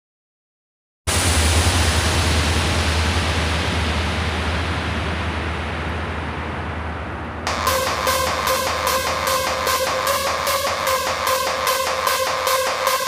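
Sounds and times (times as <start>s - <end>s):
steady low hum: 1.7s - 12.5s.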